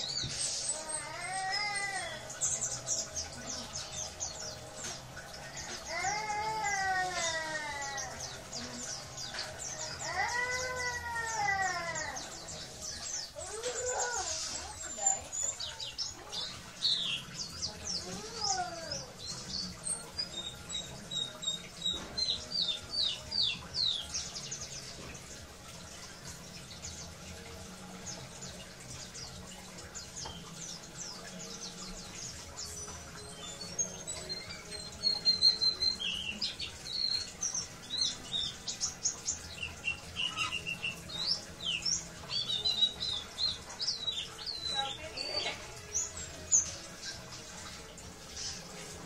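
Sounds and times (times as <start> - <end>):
water patter: 0.0 - 49.0.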